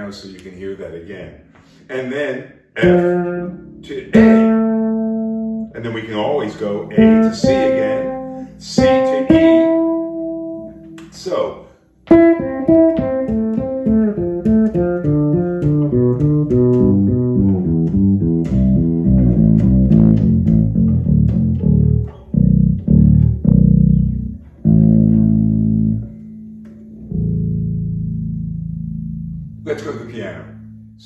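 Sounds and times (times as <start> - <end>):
plucked bass guitar notes: 2.8 - 31.0.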